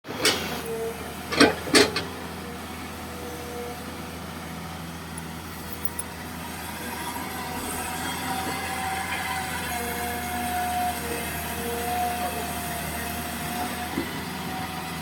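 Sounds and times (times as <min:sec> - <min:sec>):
excavator diesel hum: 0:00.1 - 0:15.0.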